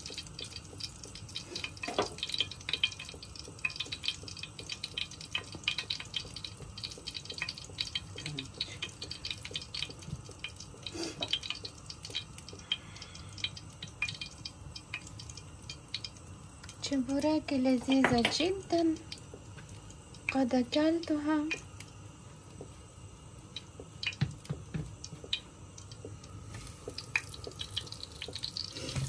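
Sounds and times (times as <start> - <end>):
hot oil crackling in a pan: 0.0 - 29.0.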